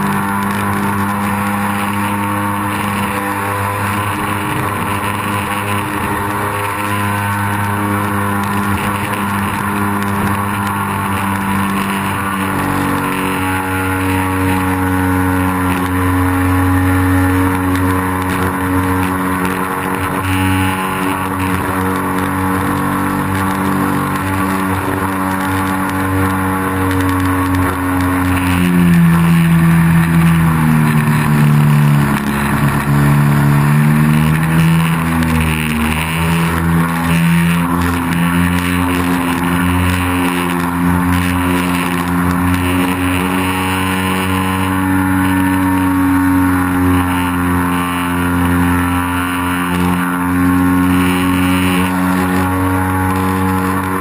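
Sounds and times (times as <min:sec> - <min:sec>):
plane engine and propeller drone: 0:00.0 - 0:54.0.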